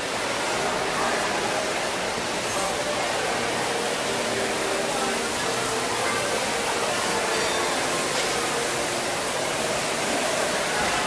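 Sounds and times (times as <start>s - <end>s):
faint background voices: 0.0s - 11.0s
water rushing in waterfall: 0.0s - 11.0s.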